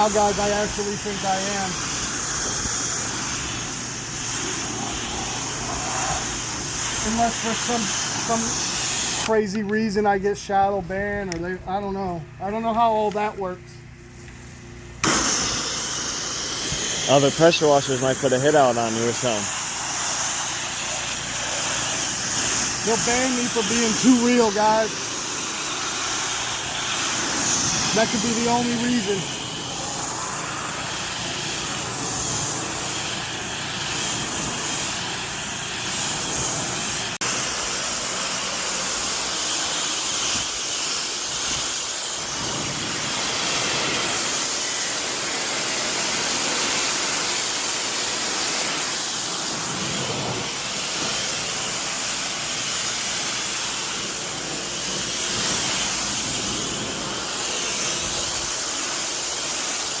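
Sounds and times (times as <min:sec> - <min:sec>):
pressure washer spraying water: 0:00.0 - 1:00.0.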